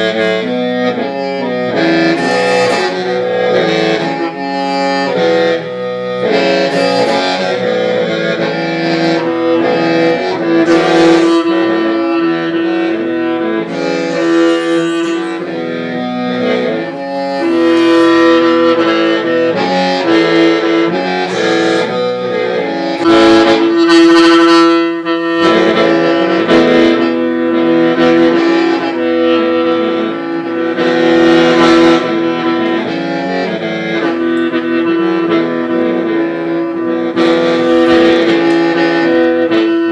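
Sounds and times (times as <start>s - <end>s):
bamboo mouth organ playing: 0.0s - 39.9s.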